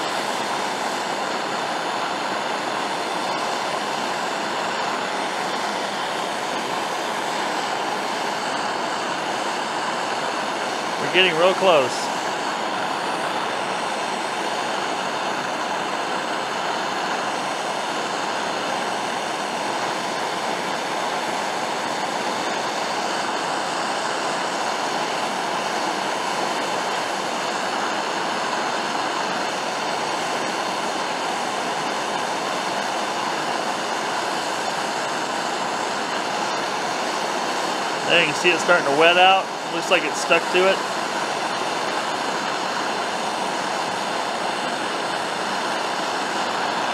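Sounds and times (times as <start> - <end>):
gas torch flame hissing: 0.0 - 46.9.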